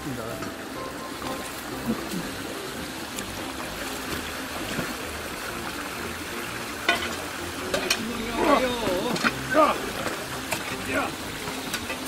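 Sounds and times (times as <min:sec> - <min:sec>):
stream water sloshing: 0:00.2 - 0:12.0.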